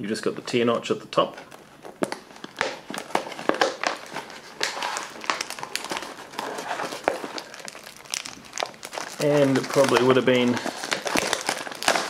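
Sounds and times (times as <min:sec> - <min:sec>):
plastic pouch crinkling: 0:01.4 - 0:12.0.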